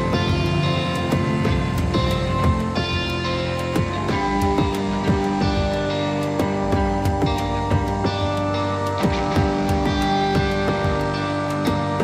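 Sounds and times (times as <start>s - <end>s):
music with held chords and beat: 0.0s - 12.0s.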